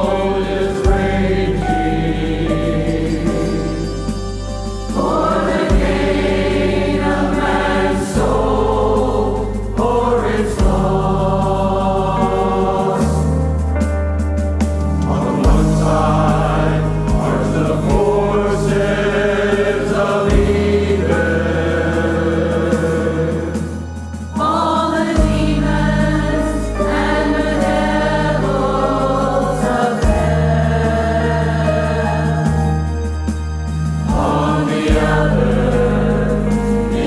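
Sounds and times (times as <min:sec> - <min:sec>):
choir singing a hymn: 0:00.0 - 0:37.0
instrumental accompaniment: 0:00.0 - 0:37.0.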